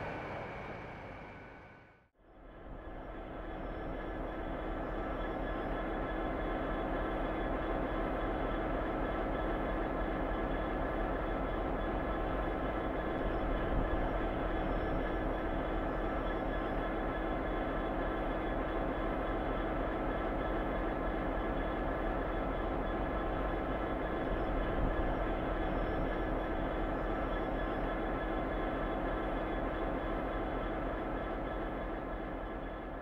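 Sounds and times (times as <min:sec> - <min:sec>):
wagons humming on rails: 0:00.0 - 0:01.9, 0:02.6 - 0:33.0
diesel locomotive engine: 0:00.0 - 0:33.0.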